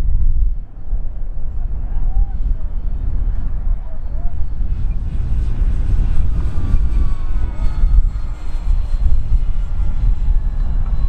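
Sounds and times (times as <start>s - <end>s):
loud low rumble: 0.0s - 11.0s
model plane propellers buzzing: 0.0s - 11.0s.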